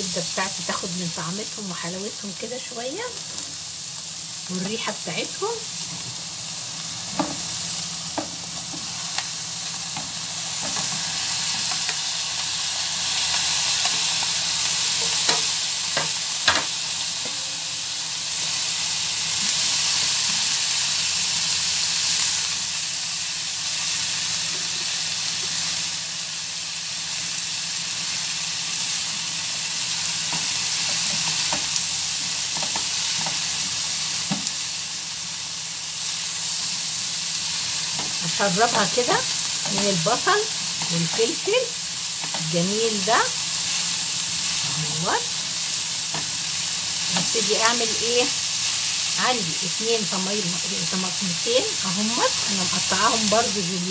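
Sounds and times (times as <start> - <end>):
food sizzling in hot oil: 0.0 - 53.9.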